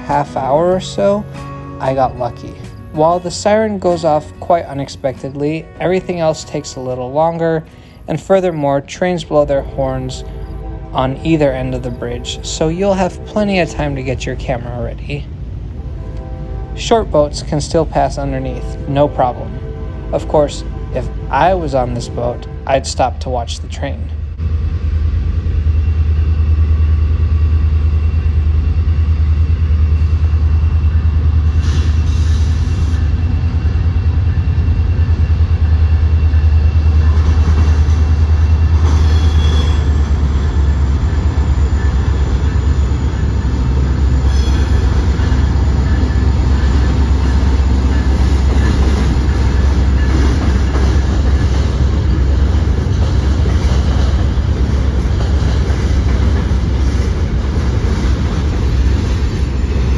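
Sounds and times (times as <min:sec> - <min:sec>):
freight train rumbling over bridge: 0:00.0 - 0:59.9.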